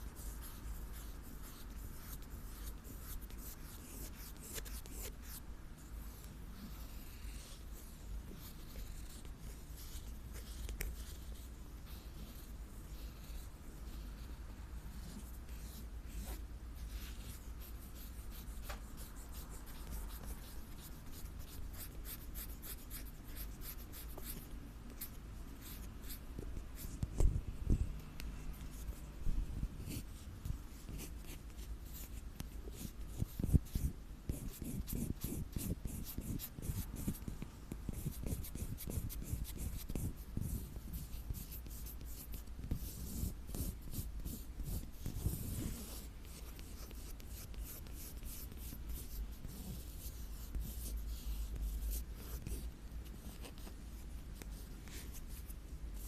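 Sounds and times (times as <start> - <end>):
scratching and rubbing on surface: 0.0 - 27.8, 29.8 - 56.0.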